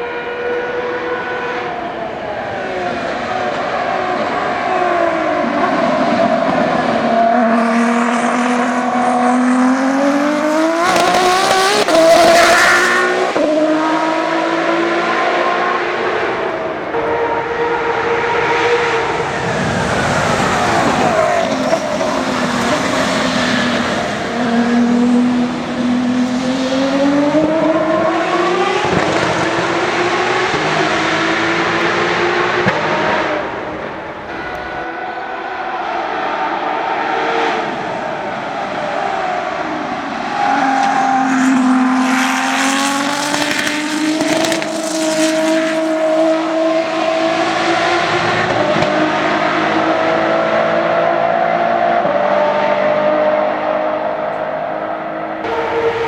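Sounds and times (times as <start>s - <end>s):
car passing rush: 0.0s - 56.0s
race car engine revving: 0.0s - 56.0s.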